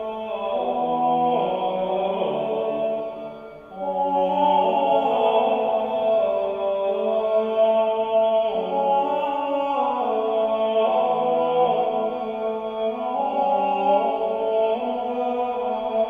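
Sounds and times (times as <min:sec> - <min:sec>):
voices singing polyphony: 0:00.0 - 0:16.0.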